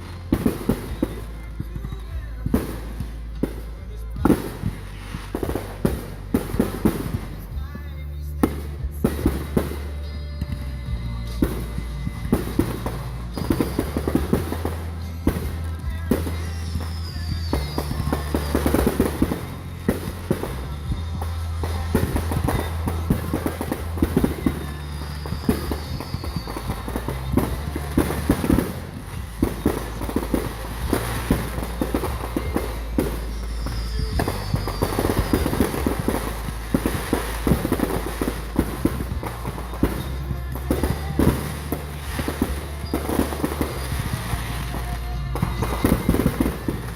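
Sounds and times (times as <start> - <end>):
fireworks bangs and crackling: 0.0 - 46.9
music playing: 0.0 - 46.9.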